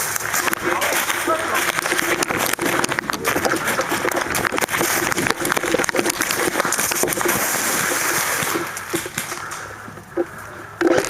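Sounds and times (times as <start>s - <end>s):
footsteps crunching dry leaves: 0.0s - 9.8s
sharp knocks and scrapes: 0.4s - 11.0s.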